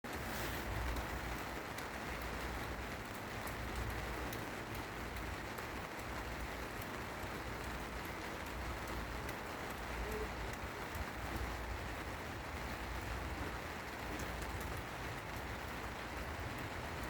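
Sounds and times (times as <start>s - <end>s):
steady rain hiss: 0.1s - 17.0s.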